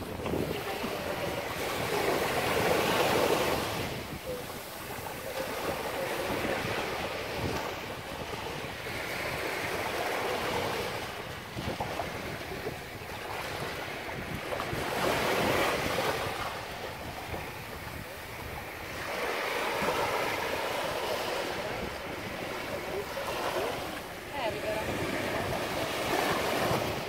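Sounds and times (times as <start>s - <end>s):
small waves breaking on beach: 0.0s - 27.0s
wind buffeting microphone: 0.0s - 27.0s.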